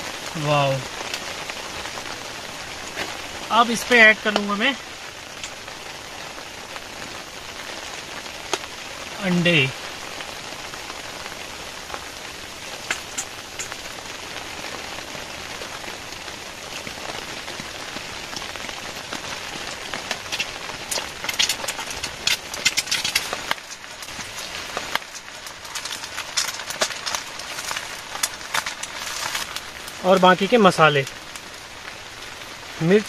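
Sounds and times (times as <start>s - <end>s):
rain on a tent: 0.0s - 33.0s.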